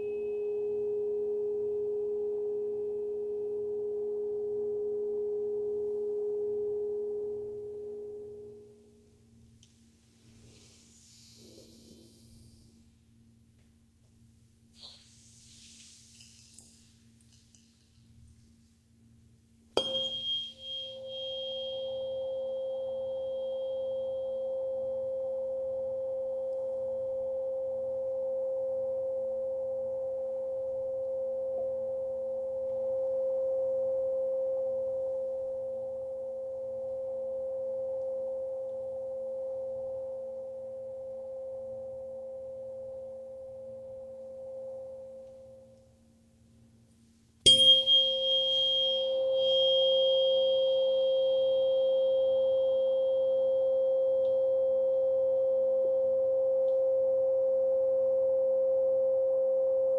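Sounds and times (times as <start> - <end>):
tuning fork ringing tone: 0.0 - 9.6, 19.8 - 46.3, 47.4 - 59.9
tuning fork strike: 0.0 - 10.7, 19.7 - 46.1, 47.4 - 59.9.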